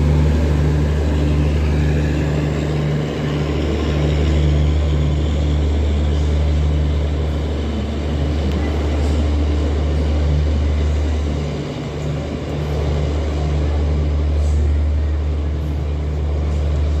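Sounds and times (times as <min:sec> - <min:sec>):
diesel generator droning: 0:00.0 - 0:17.0.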